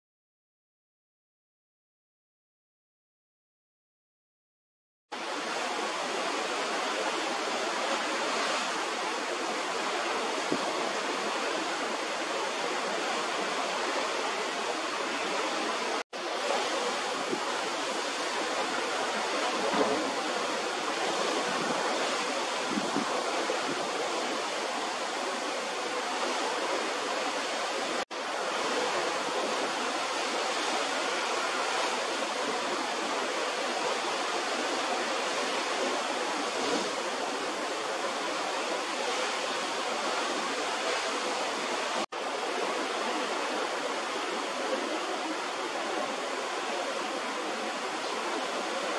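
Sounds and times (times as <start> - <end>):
sea water rushing past ship: 5.1 - 48.9
wind: 5.1 - 48.9.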